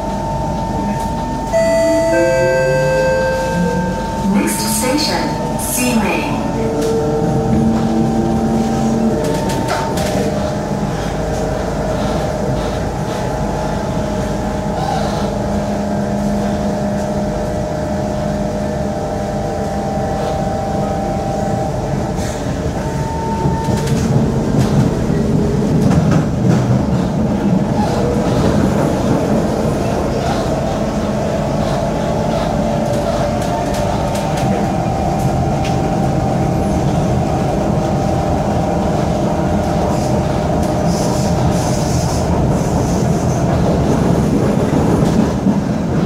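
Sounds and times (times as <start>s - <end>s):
train wheel and track rumble: 0.0s - 46.0s.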